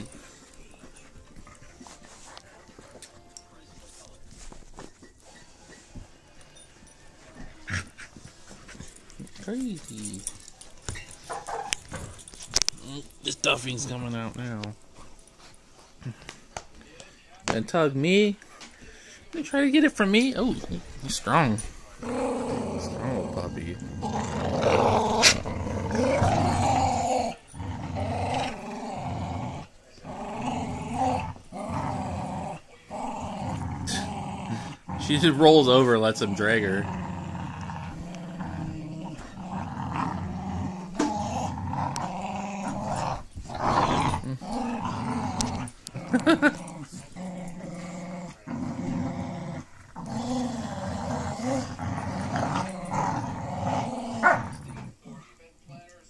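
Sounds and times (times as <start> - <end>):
dogs play-growling: 0.0 - 3.2, 4.0 - 16.4, 20.0 - 55.4.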